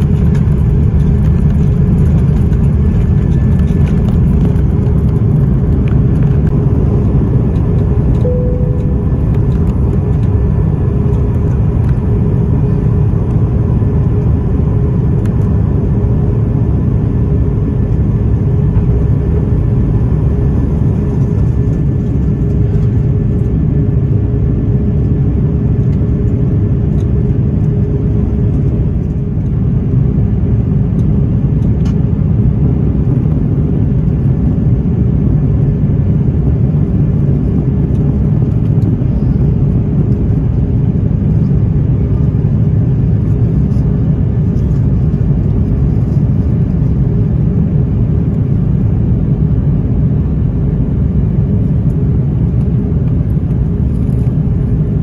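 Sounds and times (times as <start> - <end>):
jet engines rumbling in cabin: 0.0 - 55.0.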